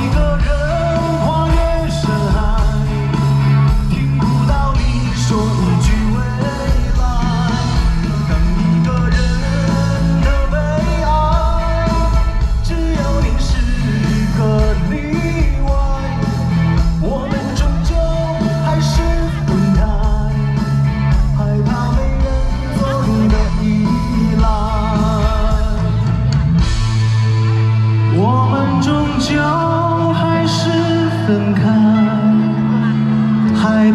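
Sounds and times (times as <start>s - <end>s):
person singing: 0.0s - 26.9s, 28.0s - 33.9s
live rock band playing: 0.0s - 33.9s.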